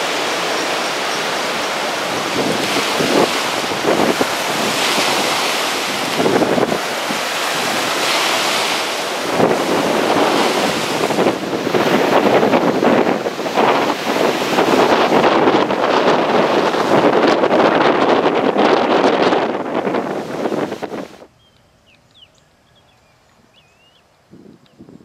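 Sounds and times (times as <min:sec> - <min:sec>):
surf washing: 0:00.0 - 0:21.3
wind buffeting microphone: 0:00.0 - 0:21.4, 0:22.1 - 0:25.0.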